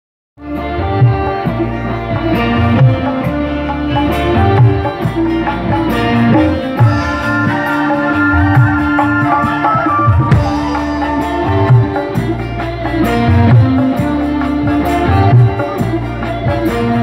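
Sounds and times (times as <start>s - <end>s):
hand drums beating: 2.3s - 17.0s.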